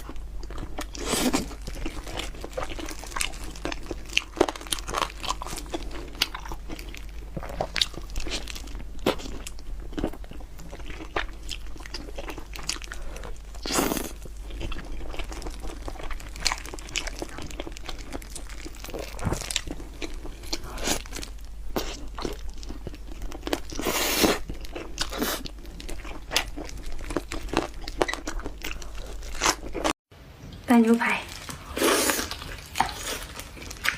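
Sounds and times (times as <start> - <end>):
person chewing crunchy food: 0.0 - 30.0, 31.3 - 33.9.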